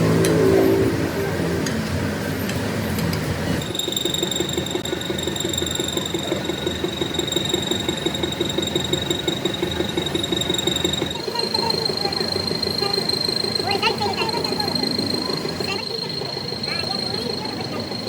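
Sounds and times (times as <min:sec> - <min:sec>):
machine motor whining and pulsing: 0:03.3 - 0:18.0.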